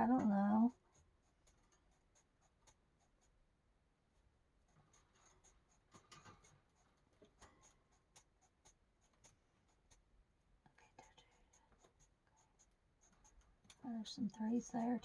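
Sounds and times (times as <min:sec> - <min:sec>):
marker scratching on paper: 0:00.2 - 0:03.4, 0:04.6 - 0:10.1, 0:10.8 - 0:15.0.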